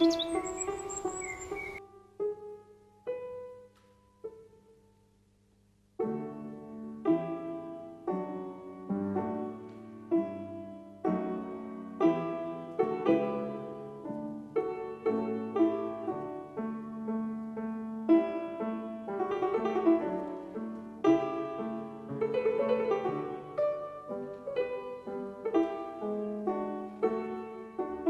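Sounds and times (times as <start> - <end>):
slow calm instrumental music: 0.0 - 28.0.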